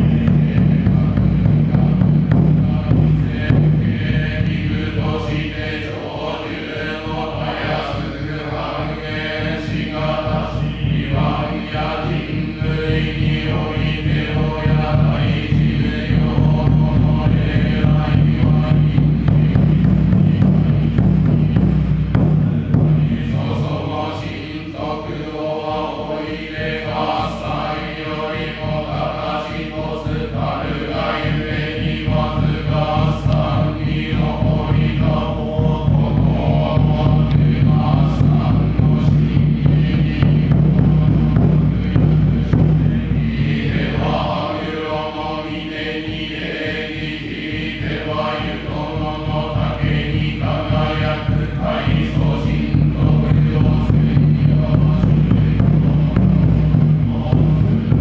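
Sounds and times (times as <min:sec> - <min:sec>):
steady low drone: 0:00.0 - 0:58.0
voices chanting in unison: 0:00.0 - 0:58.0.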